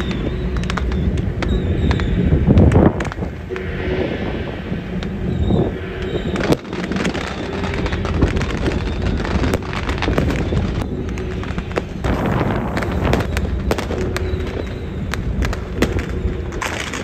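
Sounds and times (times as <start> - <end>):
firecrackers cracking: 0.0 - 3.5, 5.0 - 17.0
low rumble: 0.0 - 17.0.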